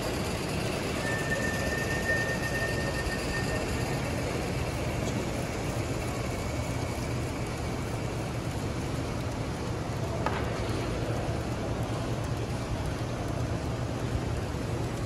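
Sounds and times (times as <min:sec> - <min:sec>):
model steam locomotive running: 0:00.0 - 0:15.0
steady low hum: 0:00.0 - 0:15.0.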